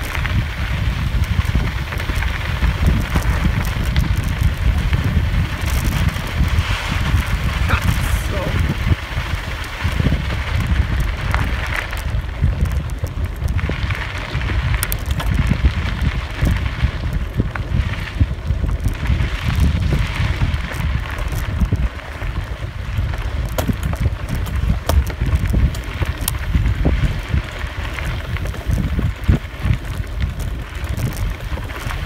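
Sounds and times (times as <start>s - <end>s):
bike clicks and rattles: 0.0s - 7.6s, 8.6s - 32.0s
tyres crunching on gravel: 0.0s - 32.0s
wind buffeting microphone: 0.0s - 32.0s.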